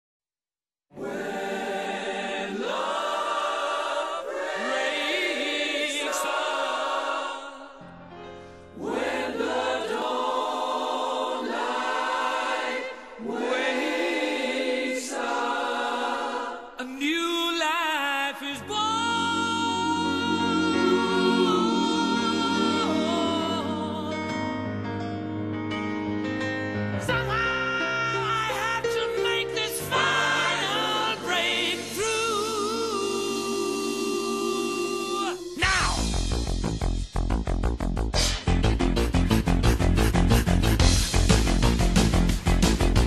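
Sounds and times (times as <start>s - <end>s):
song with layered sung vocals: 0.9s - 25.1s, 26.7s - 37.0s.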